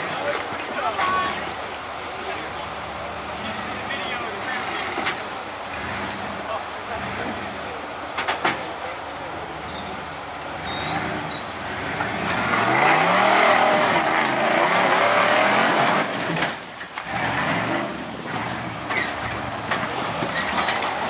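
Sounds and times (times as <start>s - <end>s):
truck engine revving hard: 1.0s - 8.1s, 9.0s - 21.0s.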